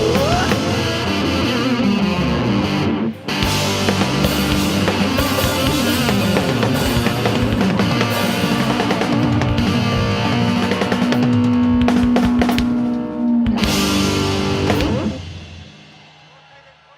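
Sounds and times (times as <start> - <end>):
electric guitars: 0.0 - 16.0
drum kit playing: 0.0 - 16.8.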